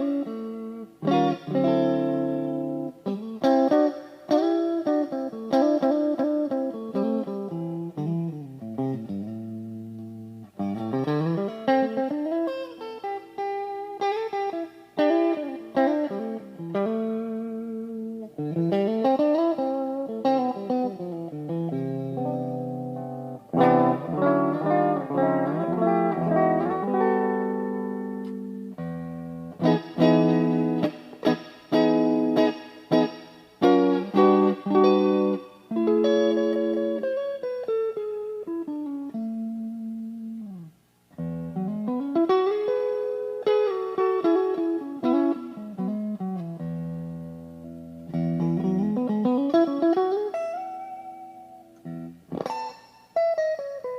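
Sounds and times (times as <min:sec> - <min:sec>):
electric guitar playing: 0:00.0 - 0:53.9.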